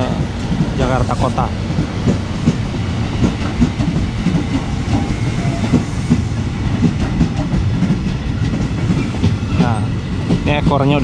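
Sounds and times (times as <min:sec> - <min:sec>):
electric train rumbling past: 0:00.0 - 0:11.0
train wheels clacking on rail joints: 0:00.0 - 0:11.0.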